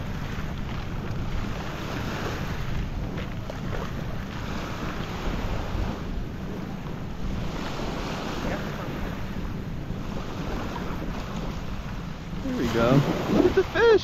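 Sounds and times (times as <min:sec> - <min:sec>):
small waves washing onto beach: 0:00.0 - 0:14.0
wind rumbling on microphone: 0:00.0 - 0:14.0.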